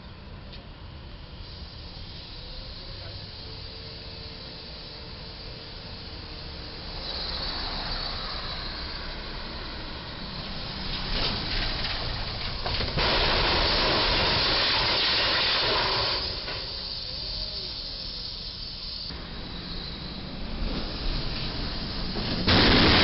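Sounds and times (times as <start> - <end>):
loud harsh hiss: 1.3 - 23.0.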